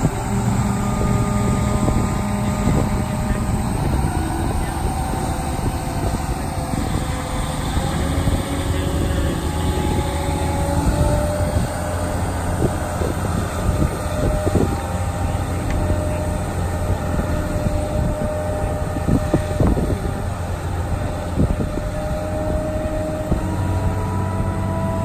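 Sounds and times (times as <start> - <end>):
trailer engine running: 0.0 - 25.0
trailer rolling slowly: 0.0 - 25.0
wind buffeting microphone: 0.0 - 25.0.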